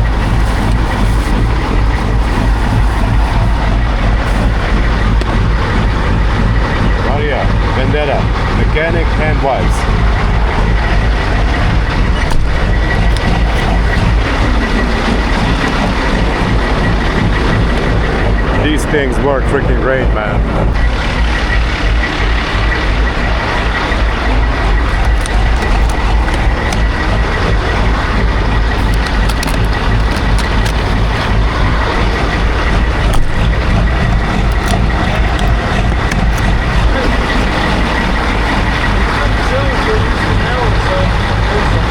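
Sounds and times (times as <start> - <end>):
large vehicle engine running: 0.0 - 41.9.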